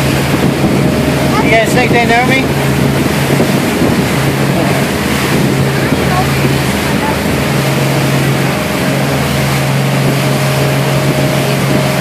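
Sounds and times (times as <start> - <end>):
outboard motors droning: 0.0 - 12.0.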